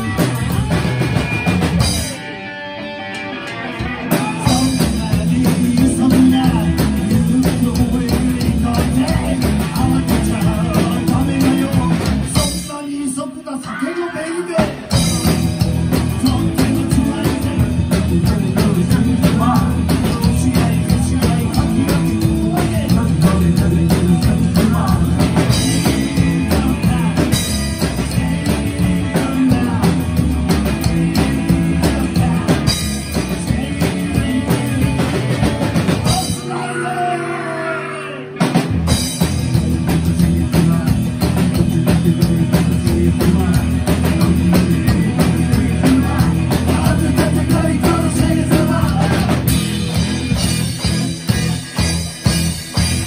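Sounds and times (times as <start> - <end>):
electric guitar: 0.0 - 12.9, 13.7 - 53.0
drum kit: 0.0 - 53.0
person singing: 3.6 - 38.6, 40.1 - 50.0.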